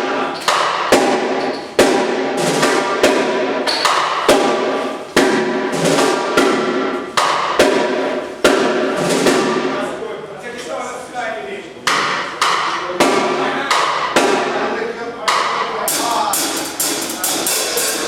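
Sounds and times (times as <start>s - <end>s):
drum hits ringing out: 0.0s - 9.9s, 11.8s - 18.0s.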